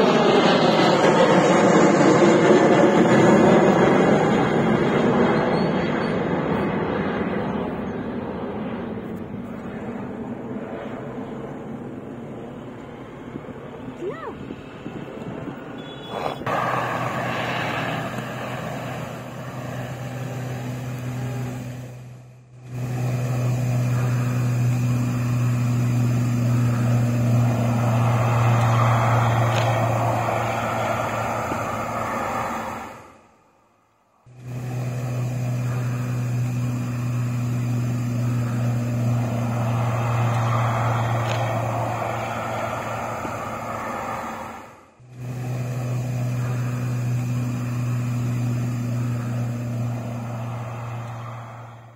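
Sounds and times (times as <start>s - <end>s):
jet engine roar: 0.0s - 51.9s.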